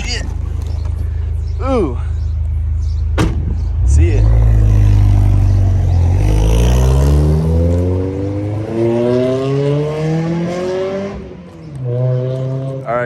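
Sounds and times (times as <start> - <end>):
car engine accelerating: 2.2 - 13.0.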